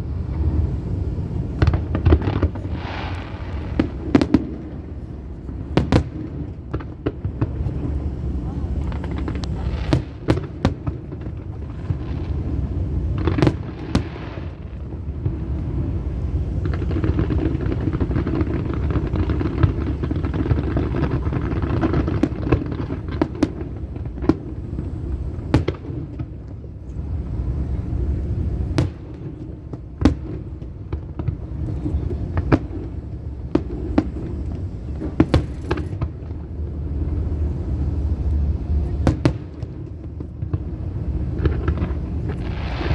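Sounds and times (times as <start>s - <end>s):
fireworks bursting in sharp bangs: 0.0s - 42.9s
low background rumble: 0.0s - 42.9s.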